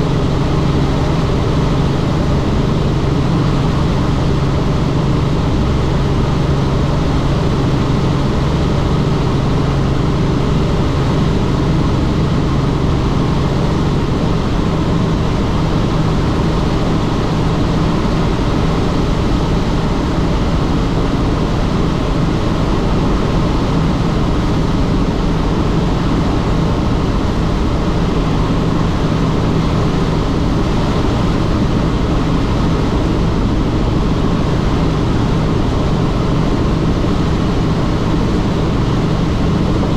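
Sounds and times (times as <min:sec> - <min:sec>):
helicopter rotor and engine noise: 0:00.0 - 0:39.9.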